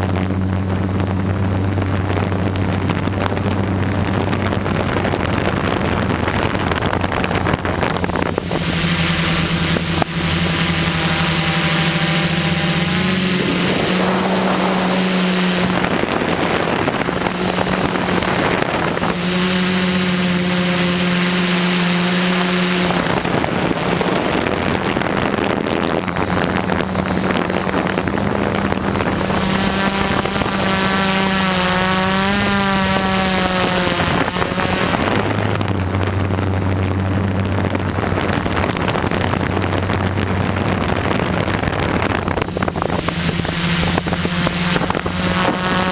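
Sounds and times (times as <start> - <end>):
drone propellers humming: 0.0 - 45.9
lower hum: 0.0 - 45.9
wind noise on microphone: 0.0 - 45.9.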